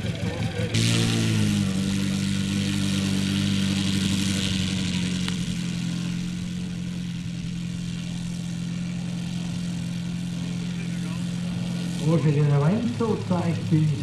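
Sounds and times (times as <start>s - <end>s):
model plane engine idling: 0.0s - 14.0s.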